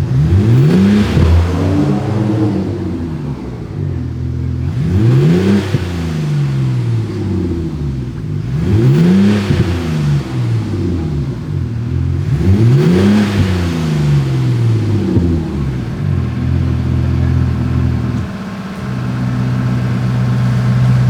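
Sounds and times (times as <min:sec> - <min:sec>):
simulated engine note revving: 0:00.0 - 0:21.0.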